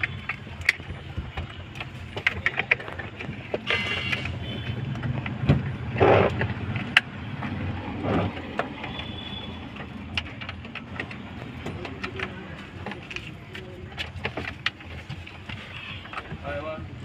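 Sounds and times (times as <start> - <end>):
plastic parts rustling and clicking: 0.0 - 17.0.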